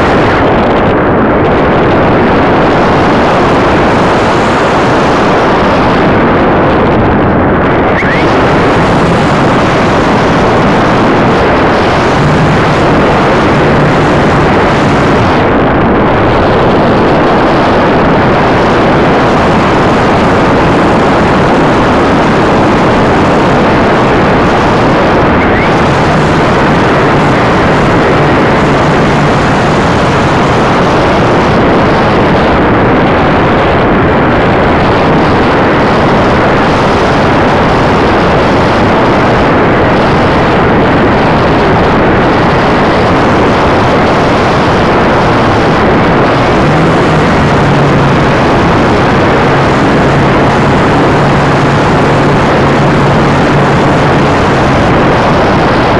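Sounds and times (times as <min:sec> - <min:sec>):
air rushing over microphone: 0:00.0 - 0:55.9.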